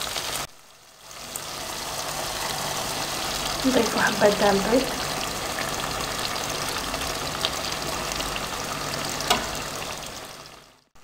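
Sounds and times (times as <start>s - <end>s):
stew sizzling in a frying pan: 0.0s - 11.0s.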